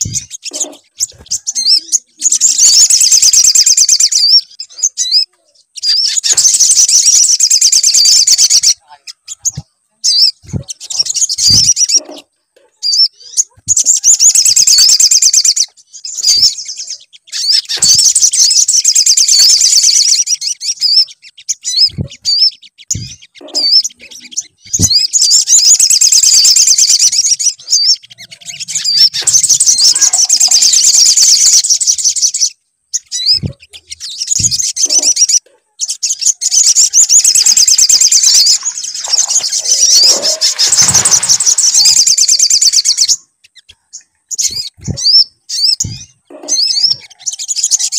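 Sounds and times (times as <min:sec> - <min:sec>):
rapid high bird chirps: 0:00.0 - 0:47.9.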